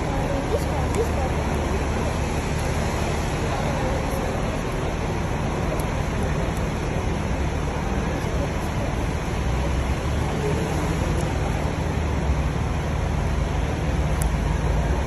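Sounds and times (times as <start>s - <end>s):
buses idling: 0.0s - 15.0s.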